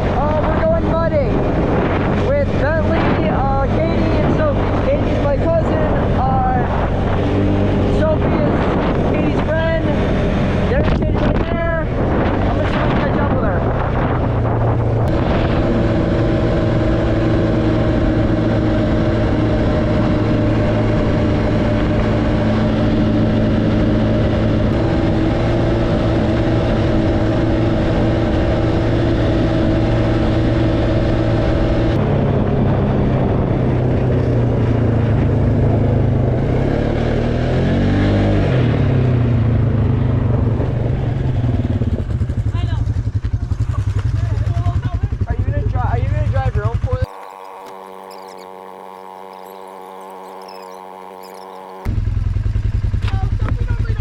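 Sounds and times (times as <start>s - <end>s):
atv engine running and revving: 0.0s - 54.0s.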